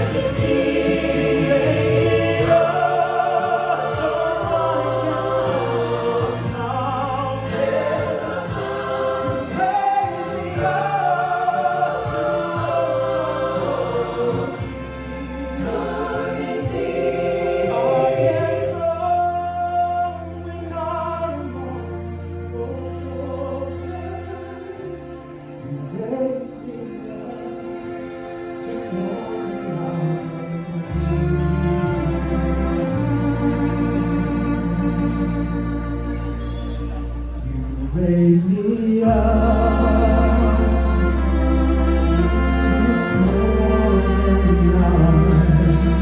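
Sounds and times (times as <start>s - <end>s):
low string notes: 0.0s - 46.0s
voices singing held notes: 0.0s - 46.0s.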